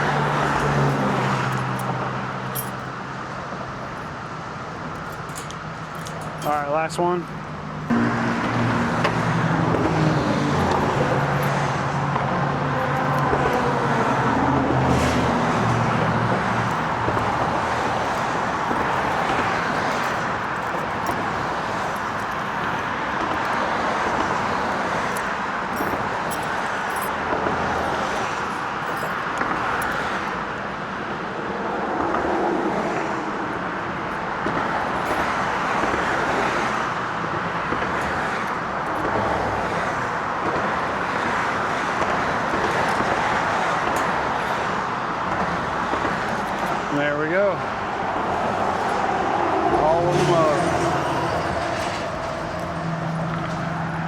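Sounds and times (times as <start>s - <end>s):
road traffic noise: 0.0s - 54.0s.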